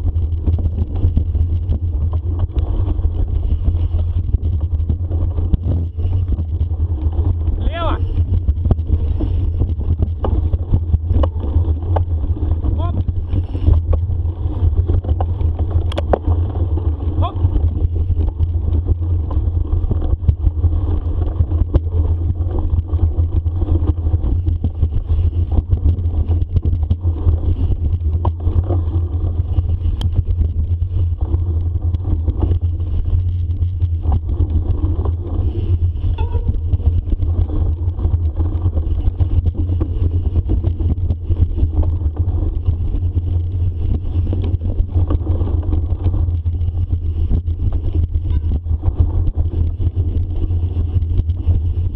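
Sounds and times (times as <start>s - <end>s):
bicycle knocks and rattles: 0.0s - 51.9s
wind rumble on microphone: 0.0s - 51.9s.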